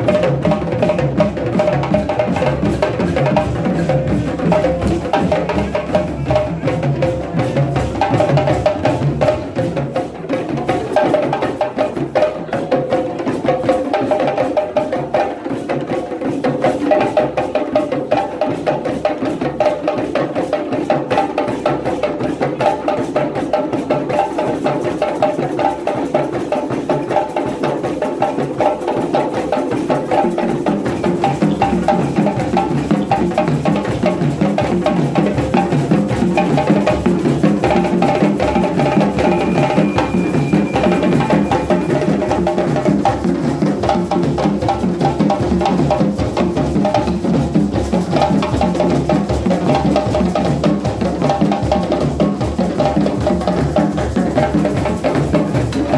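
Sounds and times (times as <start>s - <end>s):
djembe drumming: 0.0s - 55.9s.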